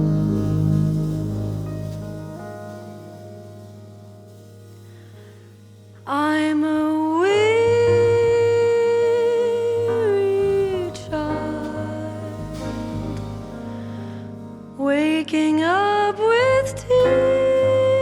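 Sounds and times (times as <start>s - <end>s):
jazz melody with vibrato: 0.0s - 18.0s
soft band accompaniment: 0.0s - 18.0s.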